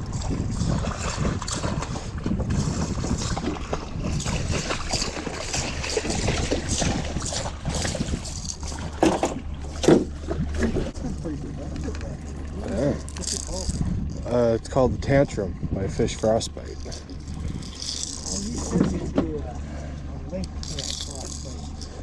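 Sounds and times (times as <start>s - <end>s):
wind buffeting microphone: 0.0s - 11.4s, 12.9s - 19.2s
steady low hum: 0.0s - 22.0s
water slapping against boat: 0.0s - 22.0s.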